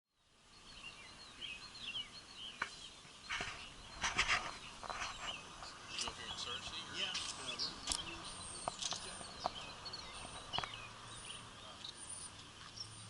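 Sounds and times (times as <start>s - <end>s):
birds chirping: 0.1s - 13.0s.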